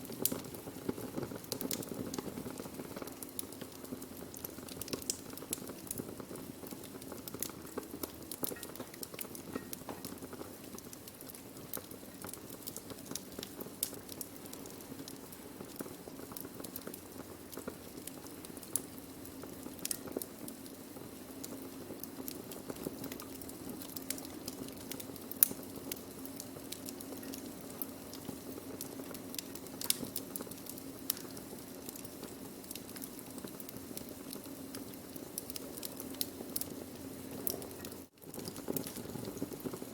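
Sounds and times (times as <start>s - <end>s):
burning wood crackling: 0.0s - 39.9s.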